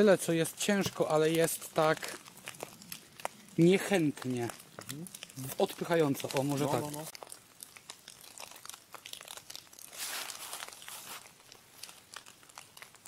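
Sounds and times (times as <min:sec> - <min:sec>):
crunching in dry leaves: 0:00.0 - 0:13.0.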